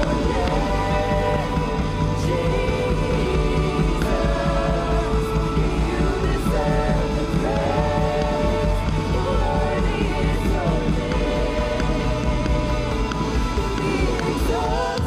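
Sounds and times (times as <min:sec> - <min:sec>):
sustained bass: 0:00.0 - 0:15.0
woman singing into microphone: 0:00.0 - 0:15.0.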